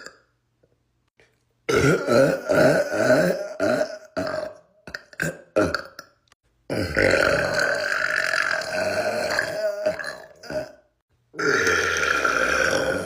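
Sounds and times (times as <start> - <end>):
man burping: 1.7 - 13.0.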